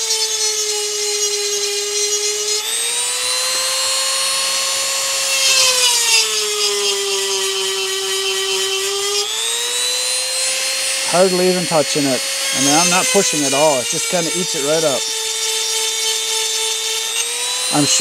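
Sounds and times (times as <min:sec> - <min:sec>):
grinding rasp: 0:00.0 - 0:18.0
rotary tool whine: 0:00.0 - 0:18.0.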